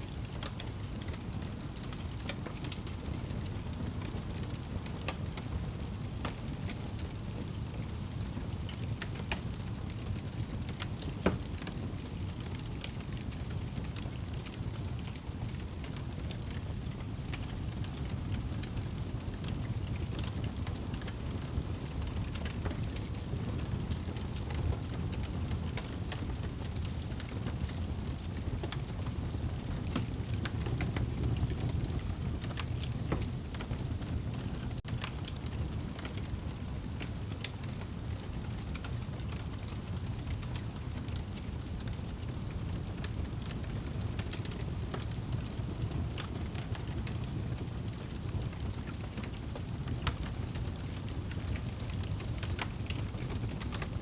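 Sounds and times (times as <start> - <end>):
wood fire crackling: 0.1 - 54.0.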